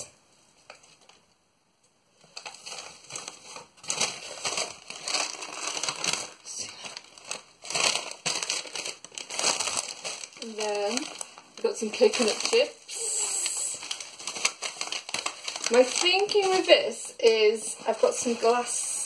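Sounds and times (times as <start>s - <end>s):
paper and cardboard rustling: 2.2s - 12.9s, 13.5s - 19.0s.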